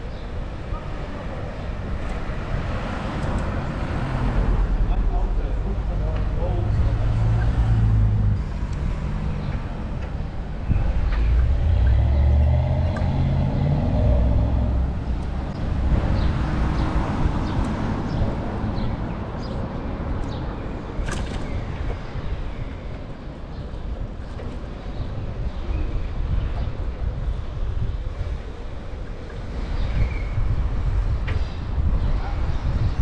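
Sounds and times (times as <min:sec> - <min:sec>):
street traffic: 0:00.0 - 0:33.0
wind rumbling on microphone: 0:00.0 - 0:33.0.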